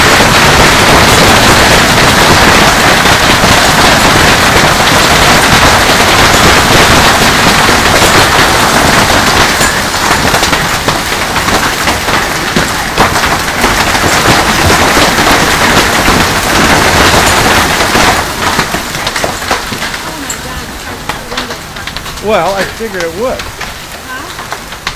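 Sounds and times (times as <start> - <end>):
hailstones pelting down: 0.0 - 24.9.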